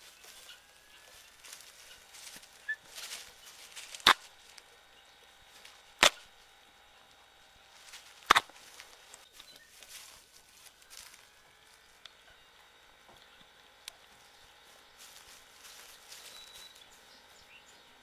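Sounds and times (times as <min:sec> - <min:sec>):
rustling in wood shavings: 0:00.0 - 0:12.1, 0:12.8 - 0:17.9.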